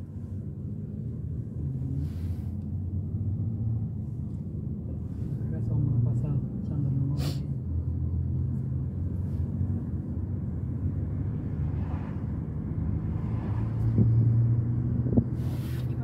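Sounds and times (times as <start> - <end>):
car cabin road rumble: 0.0 - 16.0.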